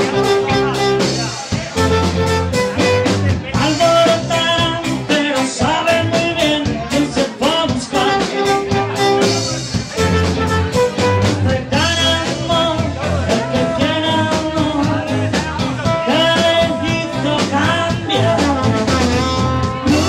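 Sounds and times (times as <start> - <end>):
trumpet melody: 0.0 - 4.9, 7.6 - 14.7, 15.8 - 20.0
live band playing: 0.0 - 20.0.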